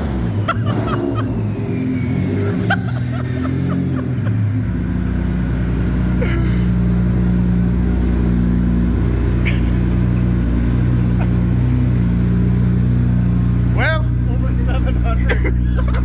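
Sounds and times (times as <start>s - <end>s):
car engine droning at steady revs: 0.0s - 16.0s.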